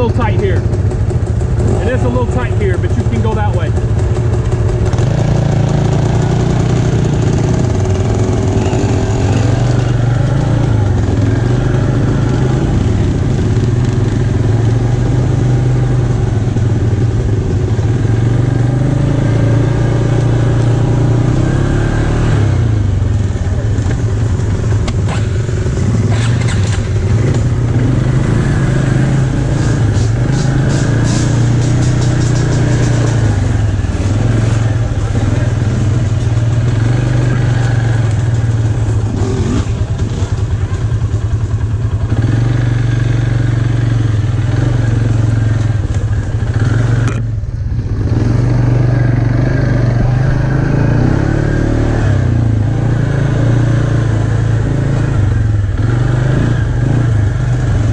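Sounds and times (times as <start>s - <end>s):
atv engine running: 0.0s - 57.9s.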